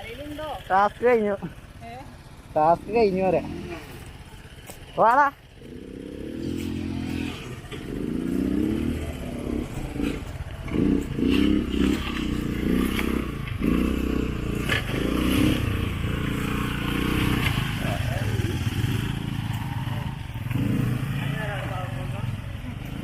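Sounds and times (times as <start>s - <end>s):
small motorcycle engine revving: 0.0s - 23.0s.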